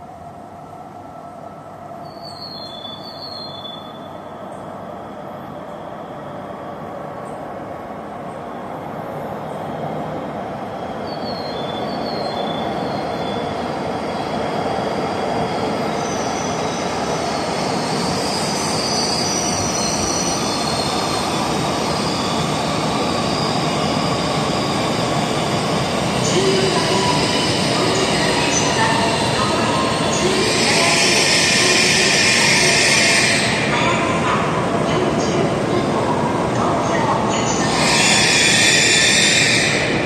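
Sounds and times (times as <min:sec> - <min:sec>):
rushing train noise: 0:00.0 - 0:40.0.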